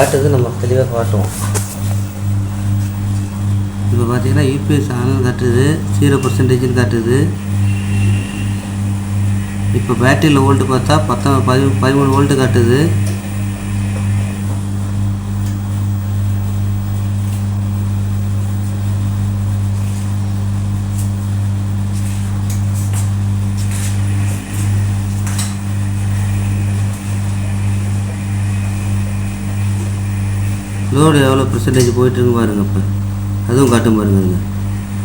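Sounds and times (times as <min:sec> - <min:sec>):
inverter humming: 0:00.0 - 0:35.0.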